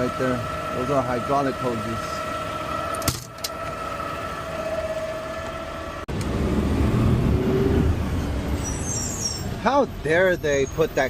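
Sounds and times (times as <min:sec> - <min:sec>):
high whine: 0:00.0 - 0:10.2
garbage truck engine: 0:00.0 - 0:11.0
low engine rumble: 0:00.0 - 0:11.0.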